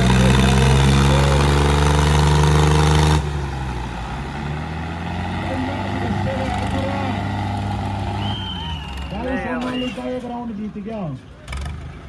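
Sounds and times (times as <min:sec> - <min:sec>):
tractor engine under heavy load: 0:00.0 - 0:12.0.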